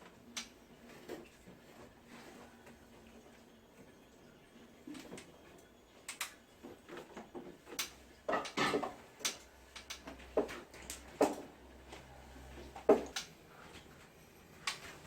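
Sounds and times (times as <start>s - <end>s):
light clicks and knocks of objects: 0.0s - 3.9s, 4.5s - 15.0s
faint low hum: 0.0s - 15.0s.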